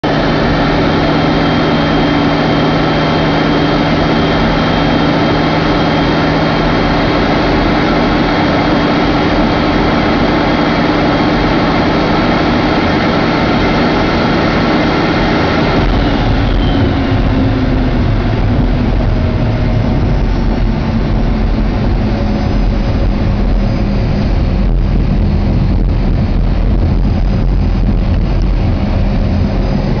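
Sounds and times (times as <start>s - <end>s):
jet engines whining: 0.0s - 30.0s
jet rolling out on runway rumble: 0.0s - 30.0s.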